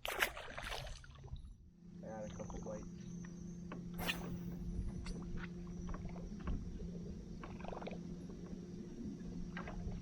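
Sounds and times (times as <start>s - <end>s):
steady low hum: 1.2s - 10.0s.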